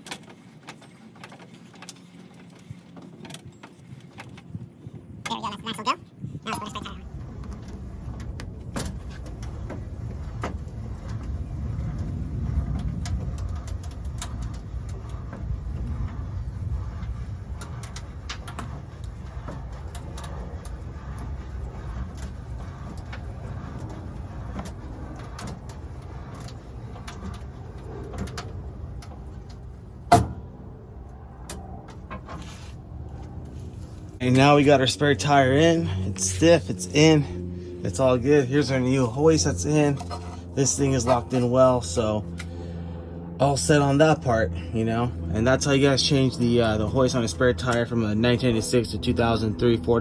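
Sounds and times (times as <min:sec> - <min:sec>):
spare tire hoist clicks and scrapes: 0:00.0 - 0:05.6, 0:07.0 - 0:43.9
steady low rumble: 0:00.0 - 0:50.0.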